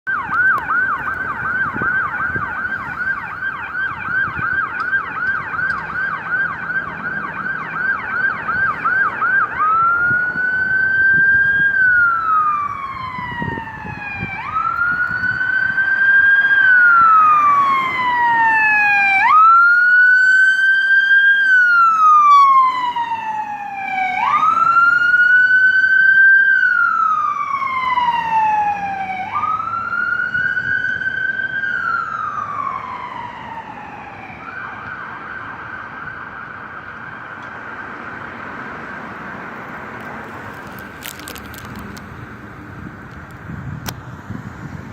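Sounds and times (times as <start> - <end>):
ambulance siren: 0.0 - 43.5.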